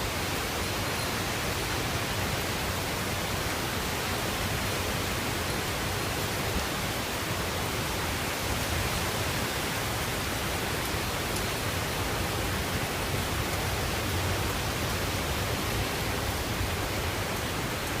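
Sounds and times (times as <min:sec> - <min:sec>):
heavy rain and wind: 0:00.0 - 0:18.0.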